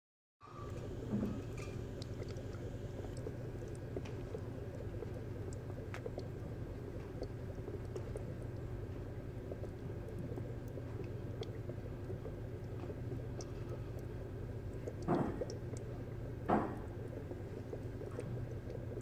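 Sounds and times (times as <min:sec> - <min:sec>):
aquarium pump humming: 0:00.4 - 0:19.0
water bubbling: 0:00.6 - 0:19.0.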